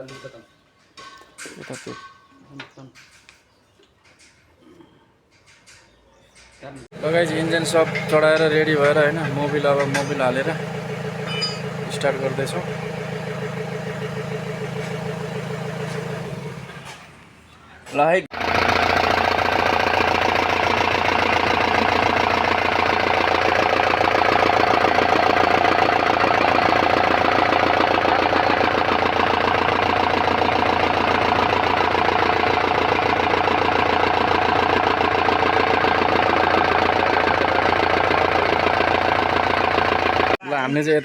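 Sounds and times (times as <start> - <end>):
diesel engine idling: 6.9 - 40.4.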